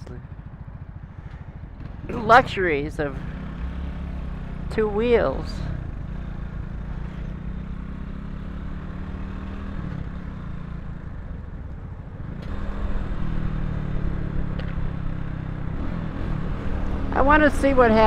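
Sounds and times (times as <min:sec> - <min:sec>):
motorcycle engine accelerating: 0:00.0 - 0:18.0
wind and road noise: 0:00.0 - 0:18.0.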